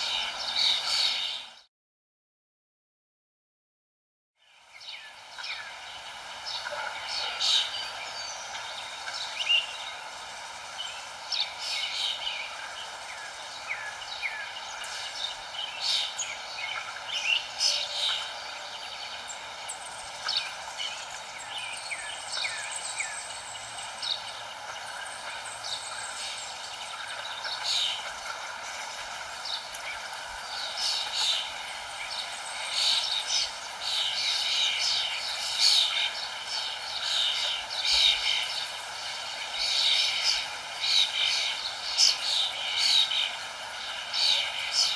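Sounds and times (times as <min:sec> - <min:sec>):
songbirds chirping: 0:00.0 - 0:01.7, 0:04.4 - 0:44.9.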